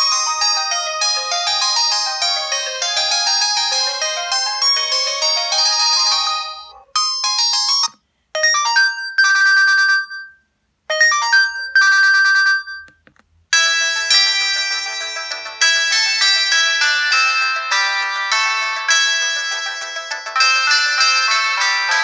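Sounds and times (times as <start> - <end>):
electronic ringtone melody: 0.0 - 12.9, 13.6 - 22.0.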